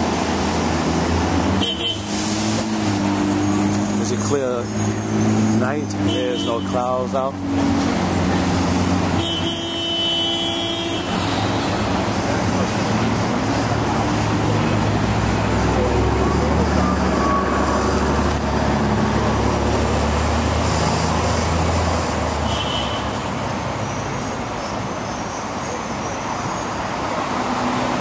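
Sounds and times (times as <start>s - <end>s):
city street traffic: 0.0s - 28.0s
heavy vehicle engine drone: 0.0s - 28.0s.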